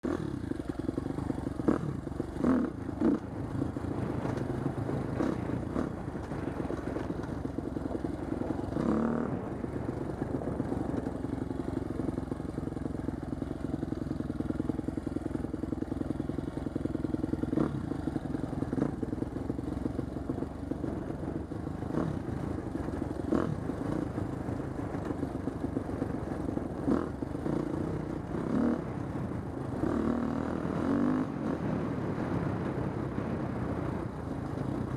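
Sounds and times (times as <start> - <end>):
dirt bike engine running: 0.0 - 34.9.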